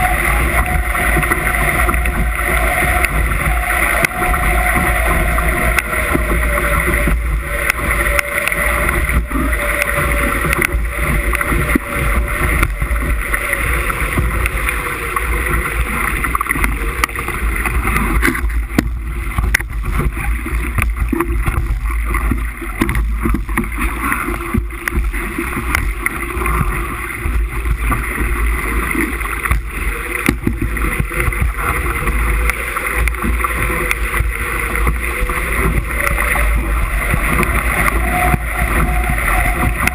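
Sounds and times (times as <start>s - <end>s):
water rushing past hull: 0.0s - 39.9s
wind buffeting microphone: 0.0s - 39.9s.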